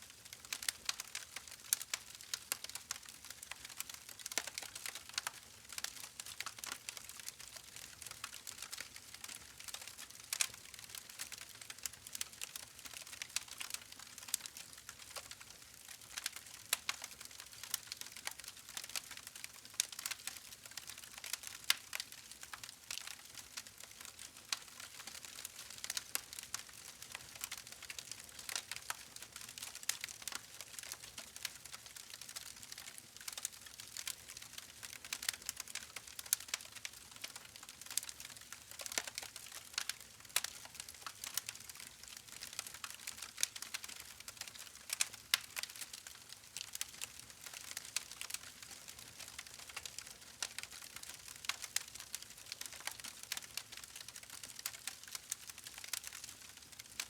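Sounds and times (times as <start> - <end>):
campfire crackling and popping: 0.2 - 57.0.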